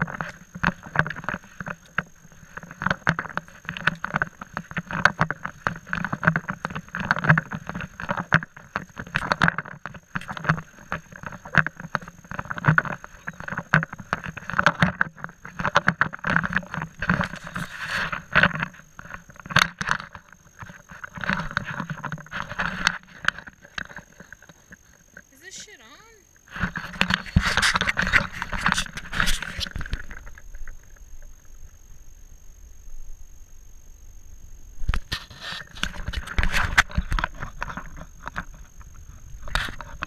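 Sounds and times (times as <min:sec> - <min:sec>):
faint high whine: 0:00.0 - 0:40.0.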